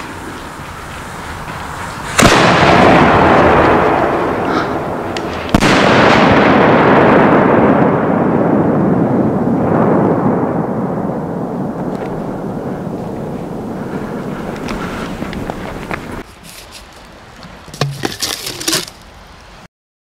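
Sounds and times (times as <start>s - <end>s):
firework burst with rolling echo: 0.0s - 16.2s
firework mortar launch: 0.0s - 19.0s.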